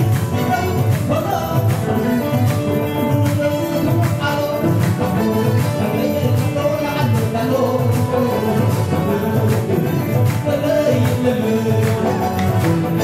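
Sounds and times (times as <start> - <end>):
upbeat dance music: 0.0 - 13.0.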